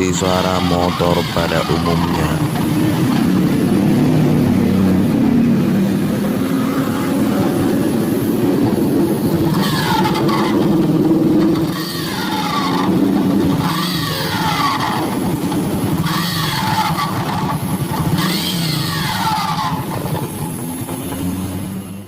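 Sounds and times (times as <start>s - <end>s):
motorcycle engine running: 0.0s - 22.0s
rising and falling engine whine: 0.0s - 22.0s.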